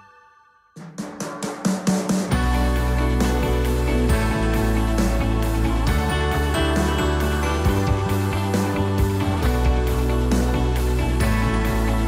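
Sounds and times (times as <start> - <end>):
background music with bass line: 1.6 - 12.0.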